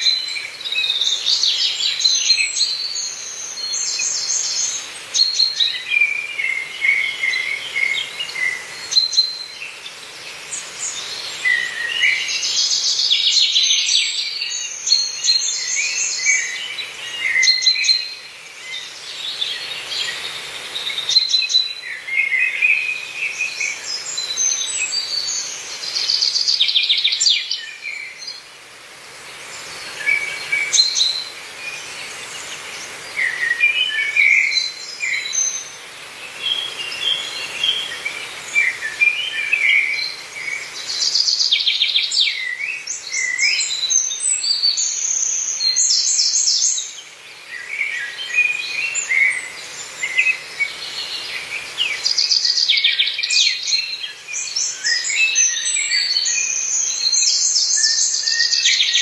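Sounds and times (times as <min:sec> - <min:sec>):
forest birds singing: 0:00.0 - 0:59.0.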